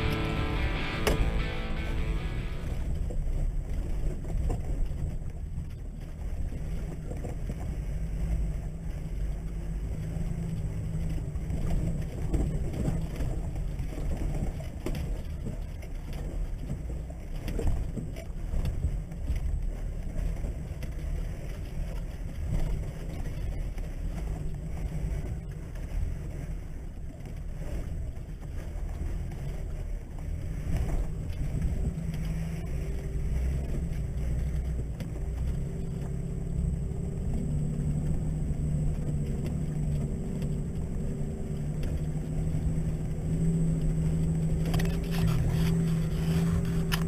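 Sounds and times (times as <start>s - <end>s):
low engine rumble: 0.0s - 47.0s.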